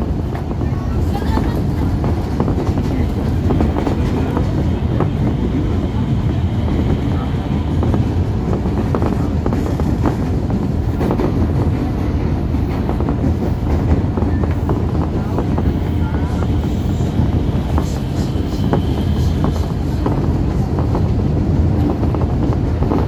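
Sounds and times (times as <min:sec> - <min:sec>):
train rumble from inside car: 0:00.0 - 0:23.0.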